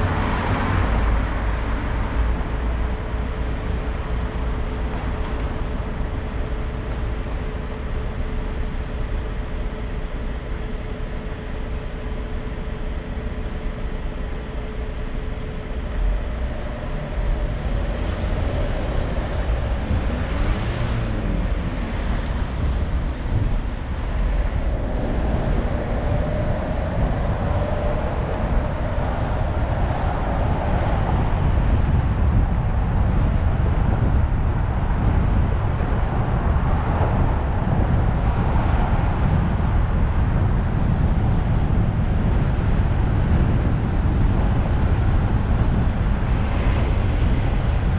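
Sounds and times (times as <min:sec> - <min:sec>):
car engine and tyre noise: 0:00.0 - 0:47.9.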